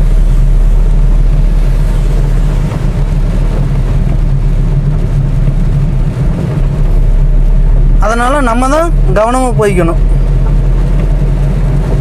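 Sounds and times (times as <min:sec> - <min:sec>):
car engine and tyres rumbling: 0:00.0 - 0:12.0
rain on car body: 0:00.0 - 0:12.0.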